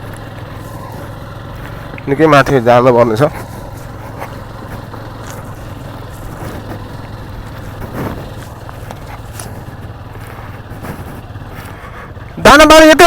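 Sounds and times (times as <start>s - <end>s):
motorcycle engine at low speed: 0.0s - 13.0s.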